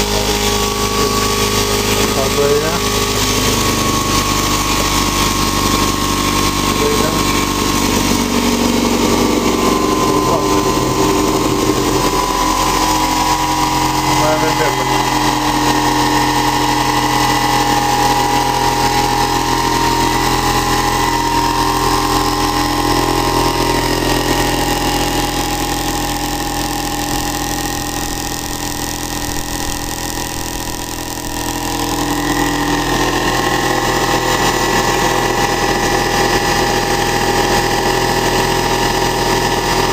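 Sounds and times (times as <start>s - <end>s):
motor-generator hum and whine: 0.0s - 39.9s.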